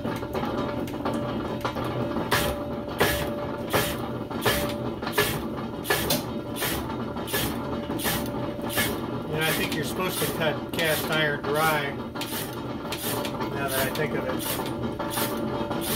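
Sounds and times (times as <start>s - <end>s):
machine running: 0.0s - 15.9s
power hacksaw rasping through metal: 2.3s - 15.9s.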